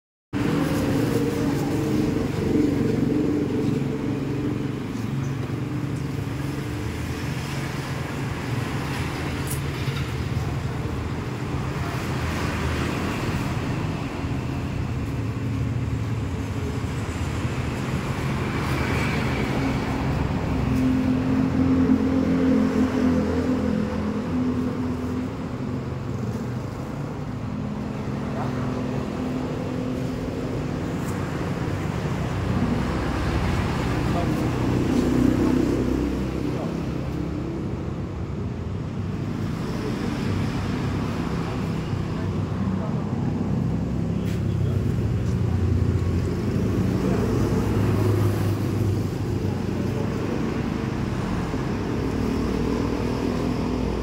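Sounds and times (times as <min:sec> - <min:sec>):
road traffic noise: 0:00.3 - 0:54.0.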